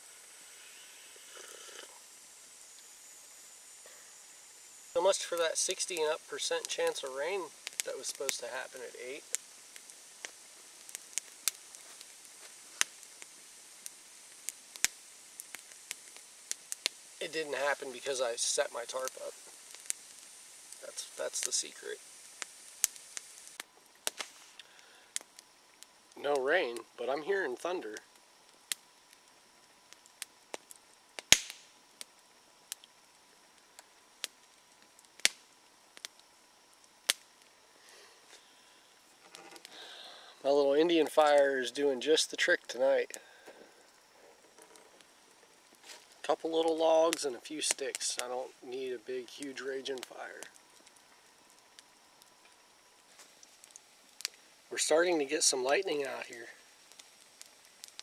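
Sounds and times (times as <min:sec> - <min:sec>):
campfire crackling and popping: 0:00.0 - 0:58.0
faint steady hiss: 0:00.0 - 0:58.0.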